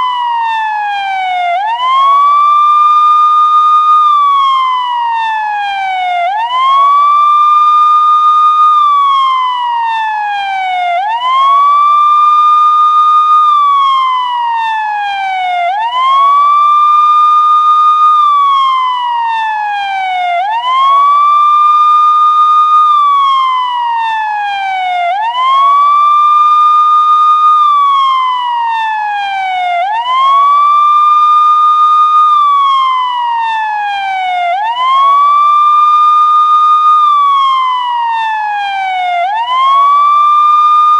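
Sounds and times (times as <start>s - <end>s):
police siren wailing: 0.0s - 40.9s.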